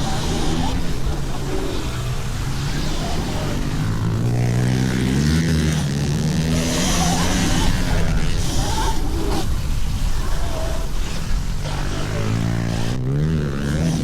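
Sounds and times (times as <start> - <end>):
pit bike motors running: 0.0 - 14.0.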